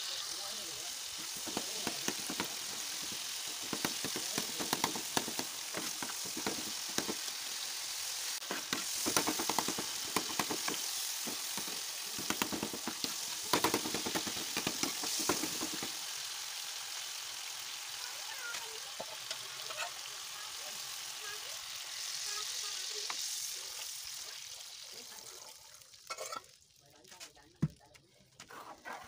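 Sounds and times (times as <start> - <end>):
tomatoes sizzling in hot oil: 0.0 - 27.9.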